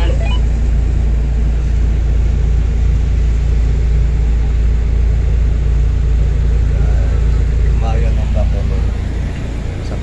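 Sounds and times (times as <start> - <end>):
diesel engine humming: 0.0 - 10.0.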